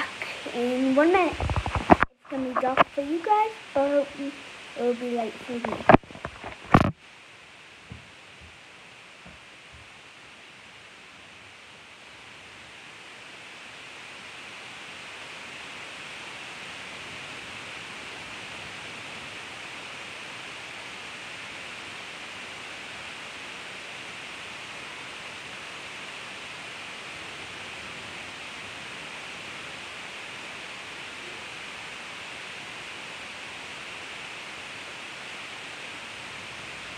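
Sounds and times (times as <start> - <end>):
steady hiss: 0.0 - 36.9.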